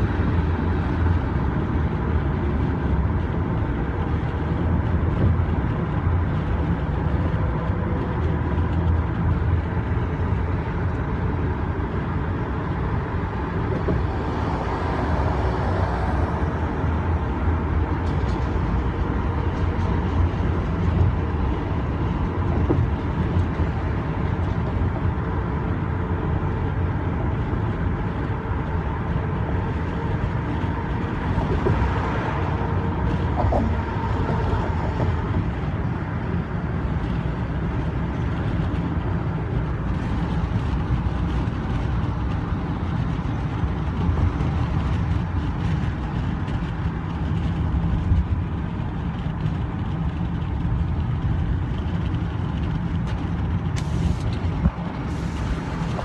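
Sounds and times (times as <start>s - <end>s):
engine and road noise: 0.0s - 56.0s.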